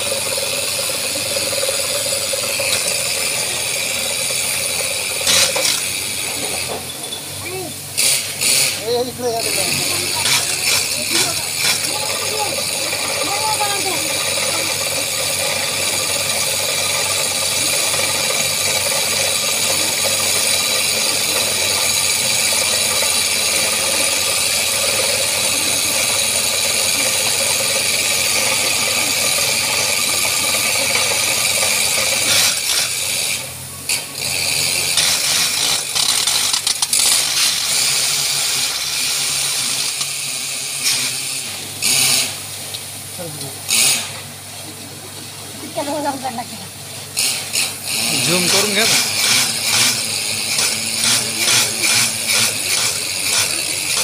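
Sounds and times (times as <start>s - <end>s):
drilling rig mechanical din: 0.0s - 54.0s.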